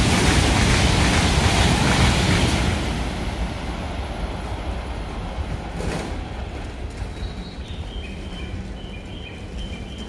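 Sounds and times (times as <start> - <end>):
high-speed train rumbling: 0.0 - 10.0.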